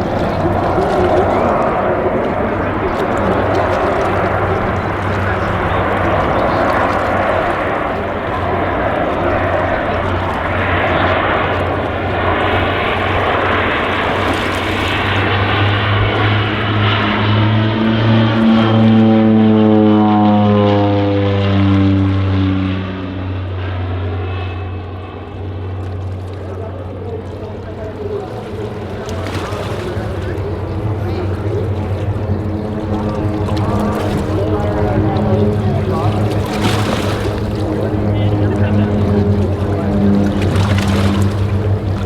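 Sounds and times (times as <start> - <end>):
propeller plane droning: 0.0 - 42.0.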